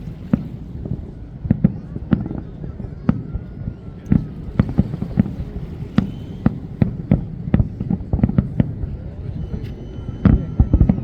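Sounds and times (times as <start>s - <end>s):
fireworks booms and bangs: 0.0s - 8.9s.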